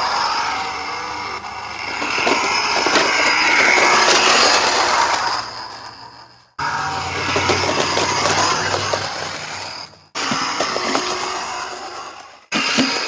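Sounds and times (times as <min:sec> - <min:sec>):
rc truck motor and gear noise: 0:00.0 - 0:13.0.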